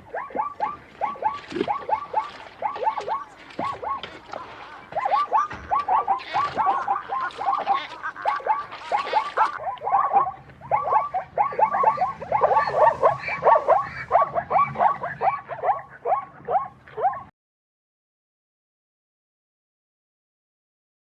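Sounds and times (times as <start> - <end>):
zebra barking bray: 0.0 - 17.3.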